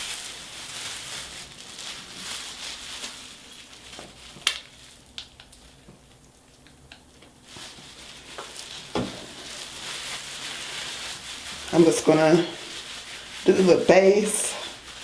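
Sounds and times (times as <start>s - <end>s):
crackly rustling of hair: 0.0s - 15.0s.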